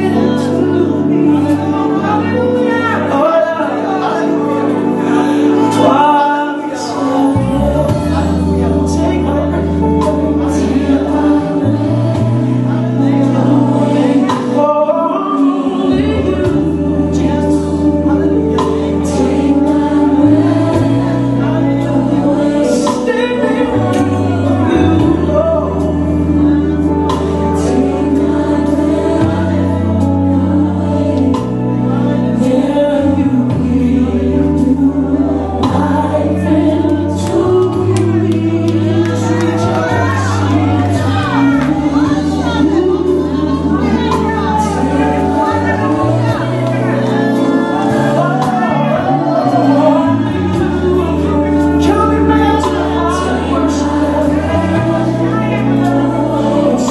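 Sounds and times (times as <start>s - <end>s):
choir singing gospel music: 0.0s - 56.9s
held bass notes: 0.0s - 56.9s.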